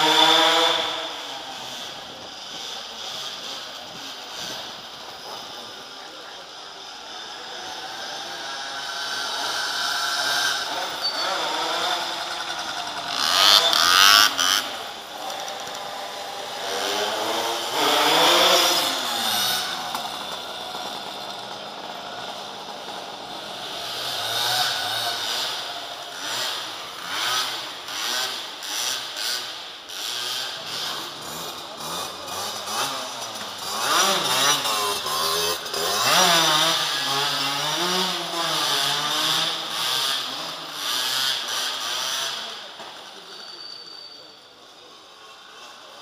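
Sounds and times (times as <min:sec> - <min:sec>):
motorcycle engines revving past: 0:00.0 - 0:46.0.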